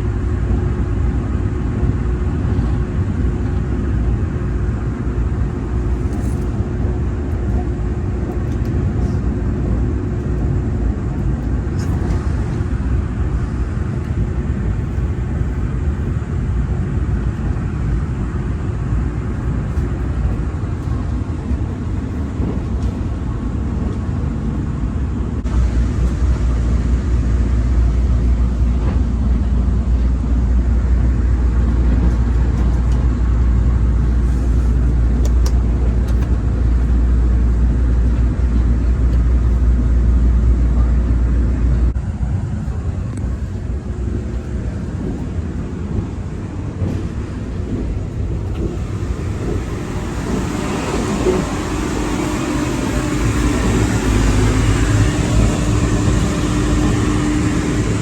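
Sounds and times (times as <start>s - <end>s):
electric train running: 1.8s - 58.0s.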